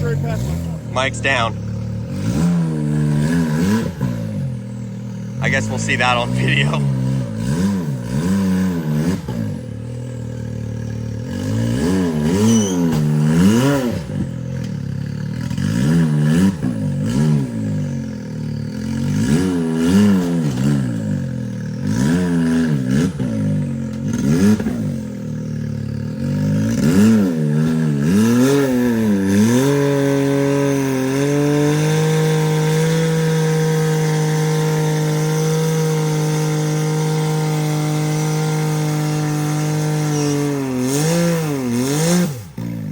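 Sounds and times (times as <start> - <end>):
utv engine revving: 0.0 - 42.9.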